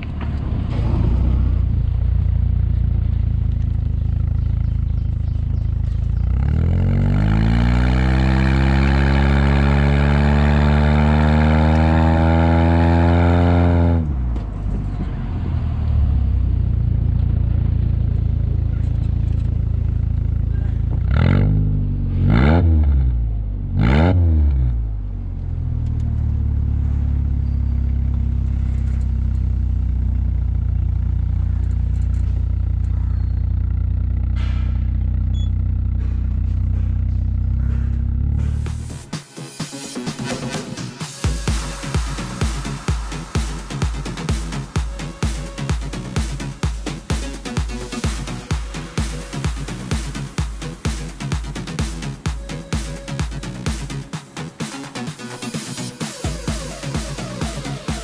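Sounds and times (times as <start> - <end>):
car exhaust idling and revving: 0.0 - 58.0.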